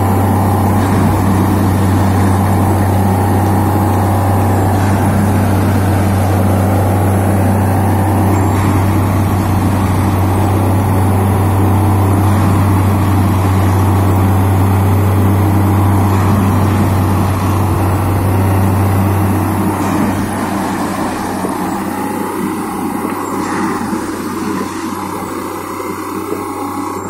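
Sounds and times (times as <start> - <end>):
hydraulic tamping gear noise: 0.0 - 27.0
low engine drone: 0.0 - 27.0.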